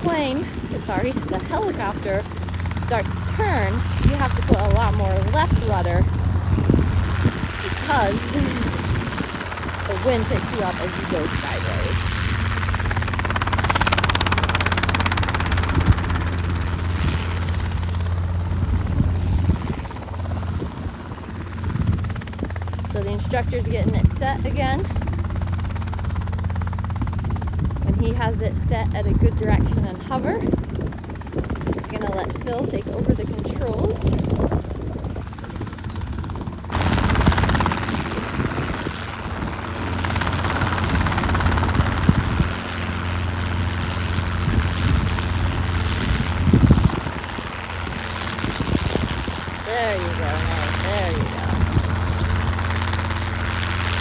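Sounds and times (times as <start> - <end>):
helicopter rotor drone and chop: 0.0 - 54.0.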